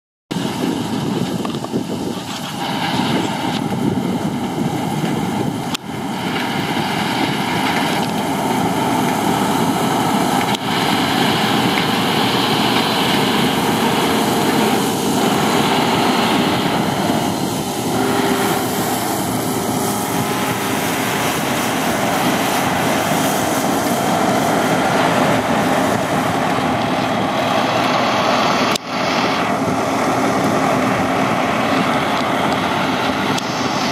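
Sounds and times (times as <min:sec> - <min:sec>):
combine harvester engine drone: 0:00.3 - 0:33.9.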